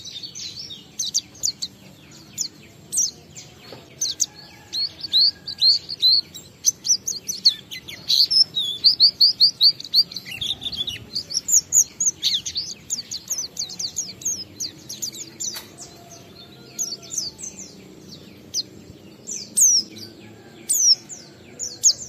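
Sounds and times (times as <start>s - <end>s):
bird singing high chirps: 0.0s - 22.0s.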